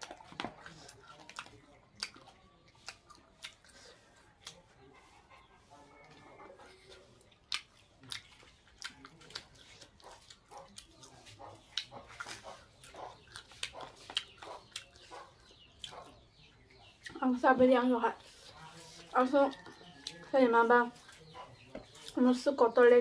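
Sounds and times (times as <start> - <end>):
person chewing food: 0.0 - 5.0, 5.6 - 17.2, 18.2 - 22.2.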